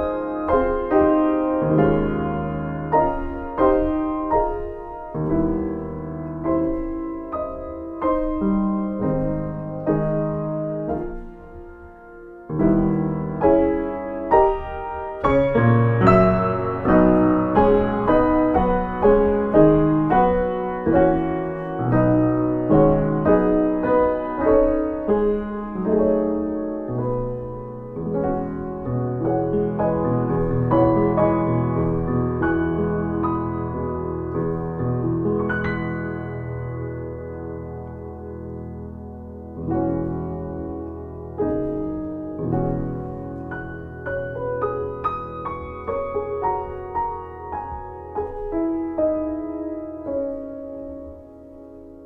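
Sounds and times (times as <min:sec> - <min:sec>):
solo piano prelude: 0:00.0 - 0:52.0.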